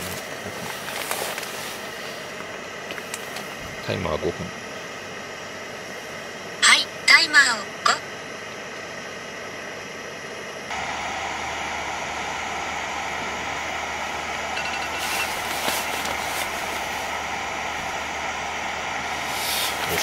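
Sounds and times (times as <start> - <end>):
gas burner hissing: 0.0 - 20.0.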